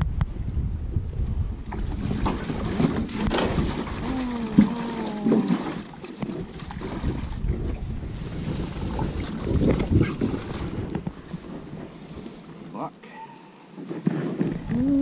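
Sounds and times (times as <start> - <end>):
wind buffeting microphone: 0.0 - 12.6, 14.4 - 15.0
river water moving: 1.6 - 15.0.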